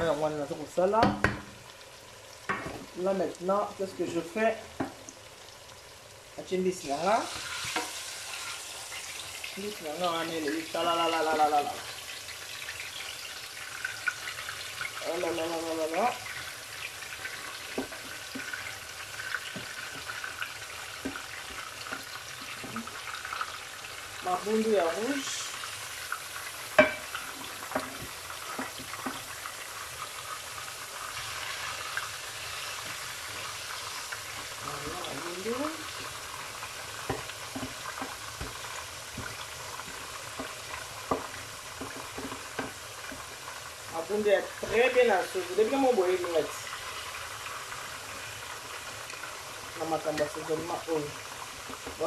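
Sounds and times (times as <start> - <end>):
fish sizzling in oil: 0.0 - 52.0
oil popping and crackling: 0.0 - 52.0.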